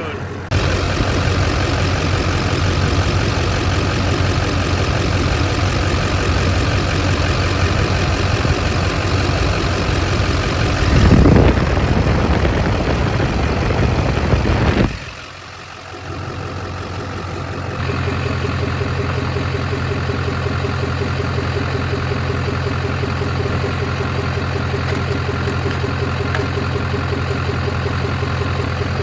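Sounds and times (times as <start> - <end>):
diesel engine idling: 0.0 - 29.0
engine fan running: 0.0 - 29.0.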